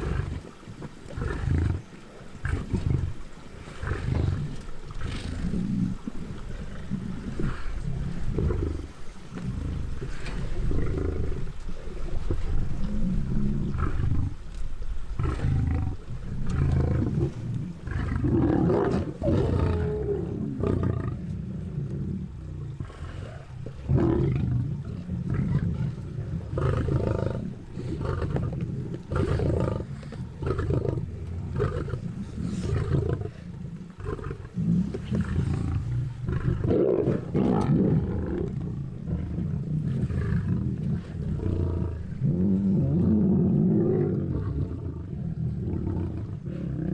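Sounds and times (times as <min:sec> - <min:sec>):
lions growling and snarling: 0:00.0 - 0:14.5, 0:15.2 - 0:46.9.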